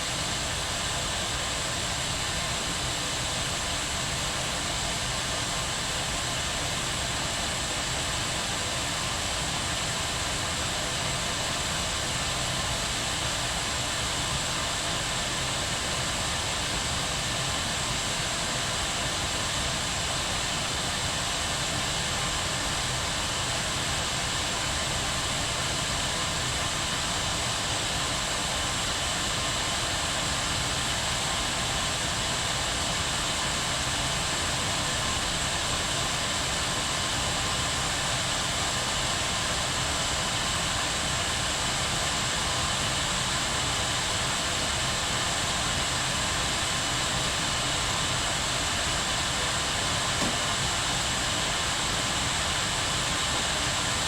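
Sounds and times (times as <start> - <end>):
kettle boiling: 0.0 - 54.0.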